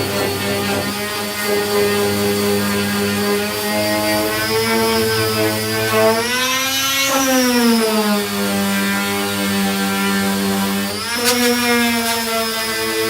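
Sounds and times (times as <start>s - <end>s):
electric power sander running: 0.0s - 13.0s.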